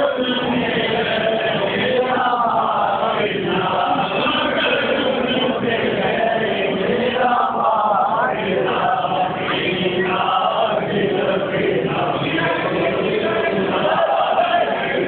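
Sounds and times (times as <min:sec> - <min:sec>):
voices chanting together: 0:00.0 - 0:15.0.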